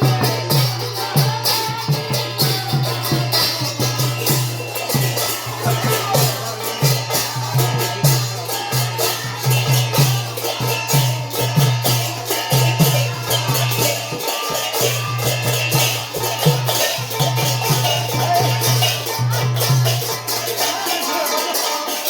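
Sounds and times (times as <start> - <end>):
rapid high percussion: 0.0 - 22.0
steady drum beat: 0.0 - 22.0.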